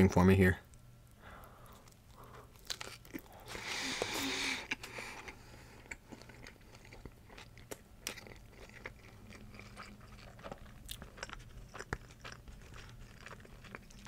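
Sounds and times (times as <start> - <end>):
close chewing with soft crunches: 1.4 - 14.0.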